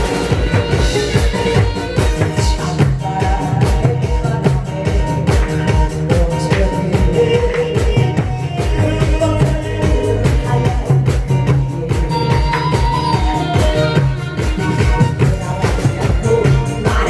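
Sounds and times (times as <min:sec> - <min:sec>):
bass: 0:00.0 - 0:17.0
drum kit beat: 0:00.0 - 0:17.0
loud amplified music: 0:00.0 - 0:17.0.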